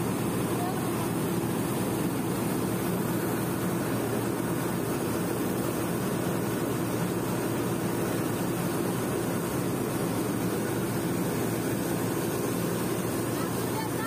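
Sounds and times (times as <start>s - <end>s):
combine harvester drone: 0.0s - 14.0s
grain pouring from auger: 0.0s - 14.0s.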